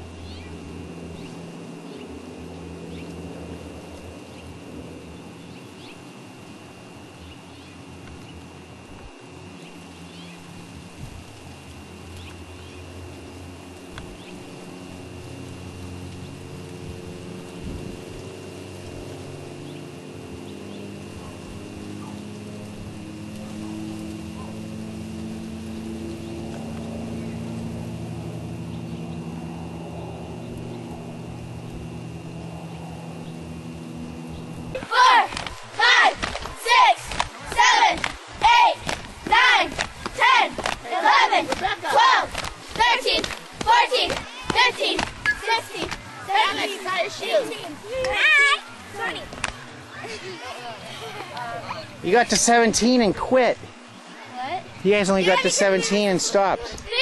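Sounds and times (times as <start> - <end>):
engine droning: 0.0 - 57.0
low hum: 0.0 - 57.0.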